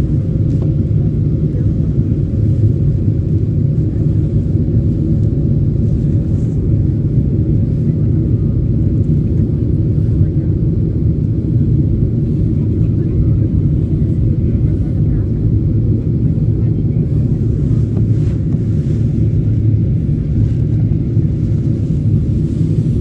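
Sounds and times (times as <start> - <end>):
low rumble of jet engines: 0.0 - 23.0.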